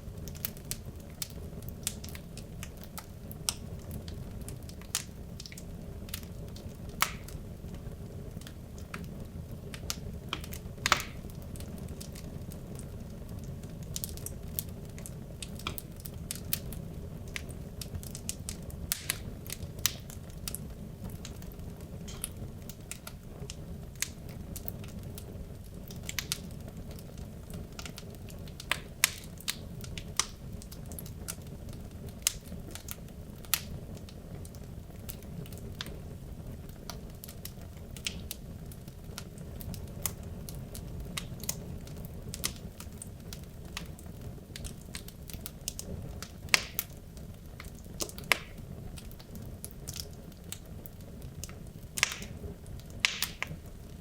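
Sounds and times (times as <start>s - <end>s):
fire rumbling in fireplace: 0.0s - 54.0s
wood crackling and popping: 0.0s - 54.0s.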